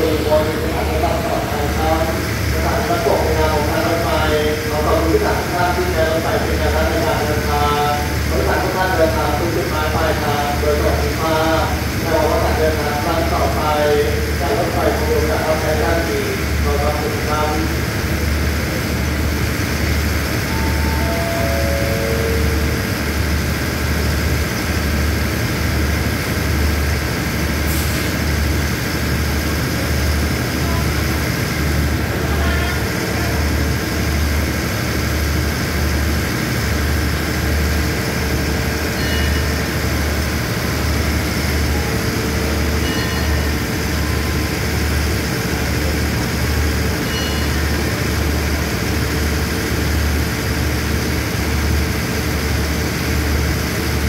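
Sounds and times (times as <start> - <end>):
diesel train engines idling: 0.0 - 54.0.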